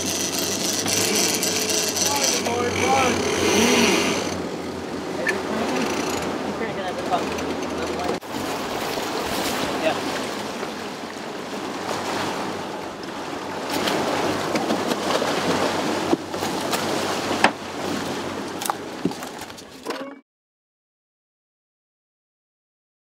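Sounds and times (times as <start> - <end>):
outboard engine drone: 0.0 - 20.2
wake water and wind rushing: 0.0 - 20.2.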